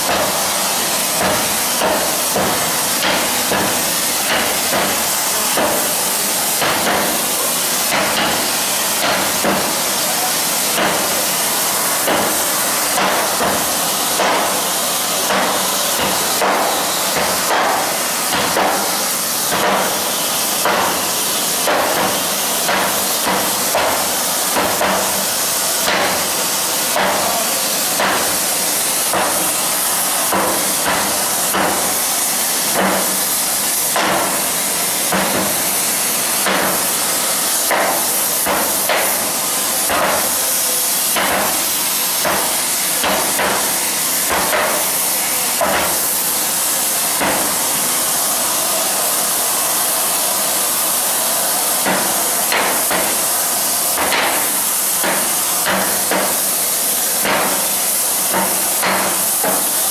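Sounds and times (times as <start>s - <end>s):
gas flames hissing: 0.0s - 59.9s.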